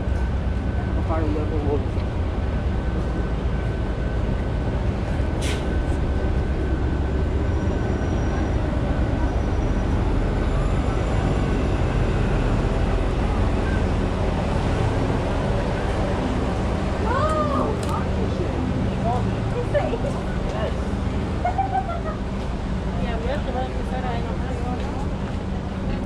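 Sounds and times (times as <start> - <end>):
bus engine running: 0.0 - 26.0
street traffic rumble: 0.0 - 26.0.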